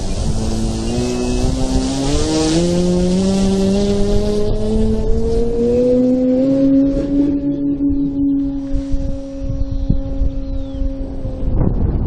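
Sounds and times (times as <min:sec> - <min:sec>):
electric motor whine: 0:00.0 - 0:12.0
wind noise: 0:00.0 - 0:12.0.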